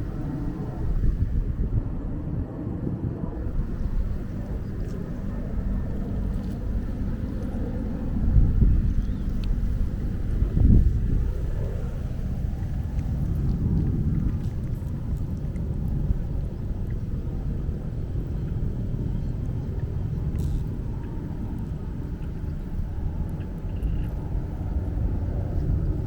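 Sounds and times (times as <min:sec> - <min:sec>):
aeroplane passing overhead: 0:00.0 - 0:26.0.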